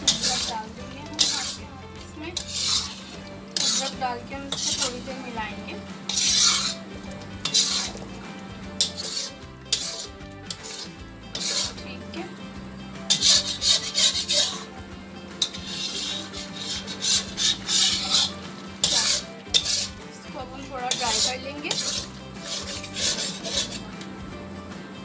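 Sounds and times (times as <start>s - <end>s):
metal spatula scraping iron pan: 0.0s - 12.3s, 13.0s - 24.0s.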